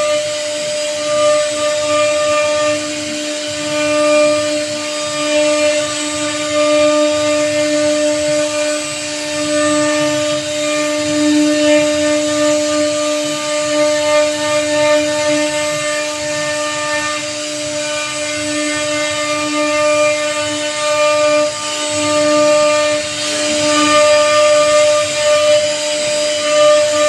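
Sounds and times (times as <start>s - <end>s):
router bit cutting wood: 0.0s - 27.0s
router spindle whining: 0.0s - 27.0s.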